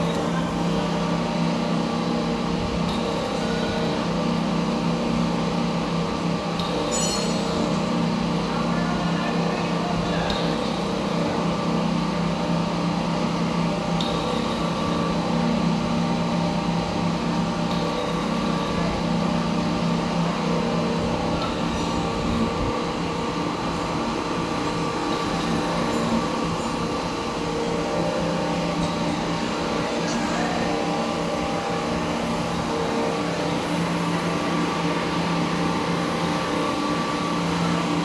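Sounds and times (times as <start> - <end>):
lathe machine hum: 0.0 - 38.0.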